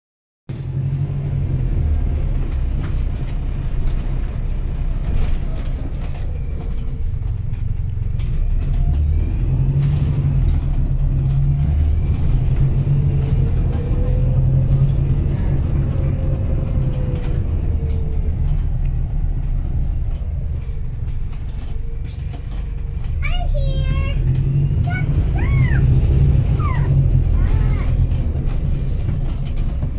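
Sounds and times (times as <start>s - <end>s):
bus engine drone: 0.5s - 29.9s
road noise: 0.5s - 29.9s.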